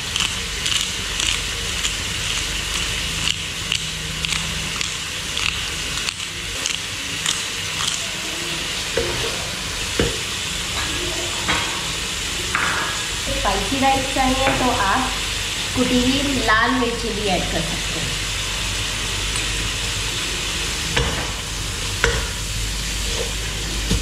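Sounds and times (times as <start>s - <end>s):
chicken and vegetables sizzling: 0.0s - 24.0s.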